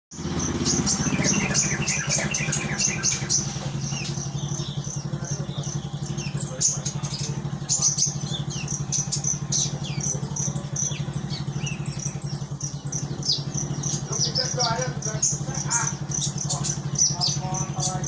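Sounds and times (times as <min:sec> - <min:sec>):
bird chirping and trilling: 0:00.1 - 0:18.0
motorcycle engine idling: 0:00.1 - 0:18.0.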